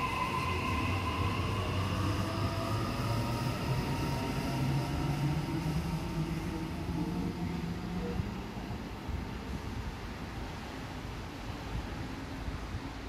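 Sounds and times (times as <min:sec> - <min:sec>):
train wheels rumbling: 0:00.0 - 0:10.6.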